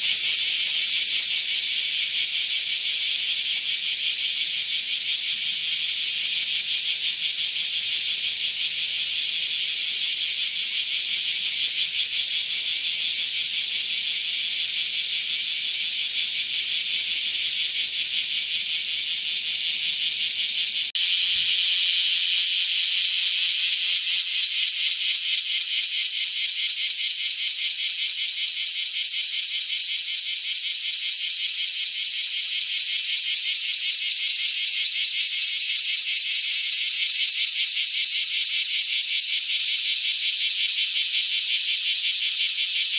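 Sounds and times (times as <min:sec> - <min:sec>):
cicada buzzing: 0:00.0 - 0:42.9.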